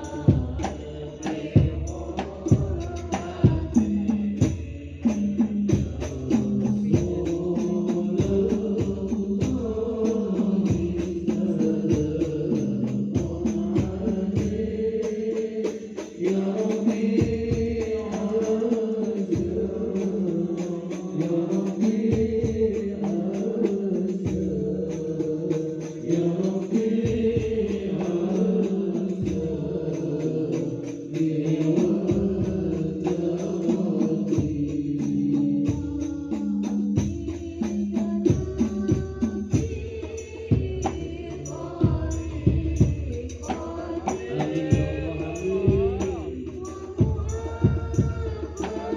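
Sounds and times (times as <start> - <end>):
frame drums beating: 0.0 - 48.9
voices chanting together: 0.0 - 48.9.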